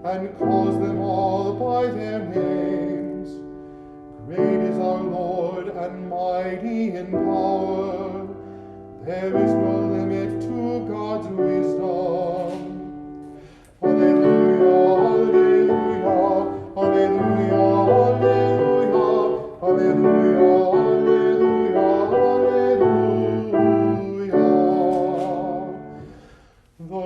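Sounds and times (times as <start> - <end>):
person singing with vibrato: 0.0 - 27.0
piano accompaniment: 0.0 - 27.0.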